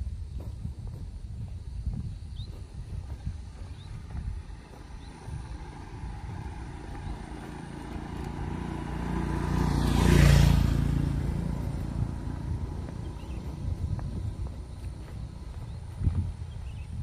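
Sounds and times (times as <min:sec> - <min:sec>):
motor scooter passing: 0:02.7 - 0:17.0.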